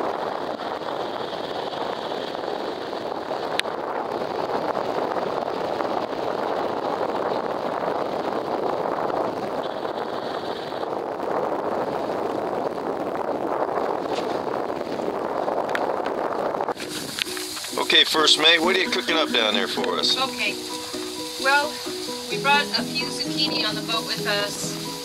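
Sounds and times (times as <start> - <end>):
water rushing along hull: 0.0 - 25.0
wind on microphone: 0.0 - 25.0.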